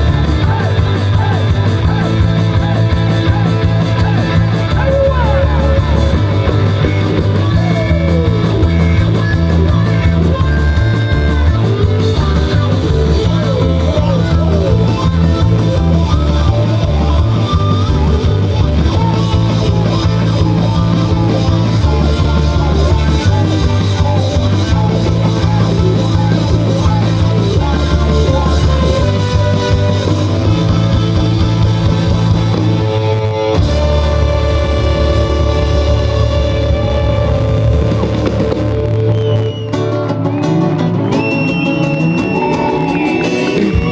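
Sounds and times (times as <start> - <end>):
bass line: 0.0 - 43.9
electric guitar: 0.0 - 43.9
live rock band playing: 0.0 - 43.9.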